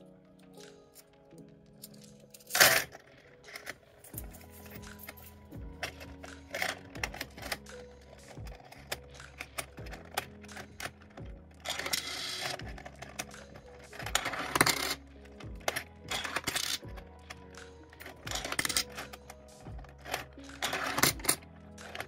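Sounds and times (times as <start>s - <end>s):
coins clicking and clinking: 0.5s - 22.0s
coins rattling: 1.8s - 22.0s.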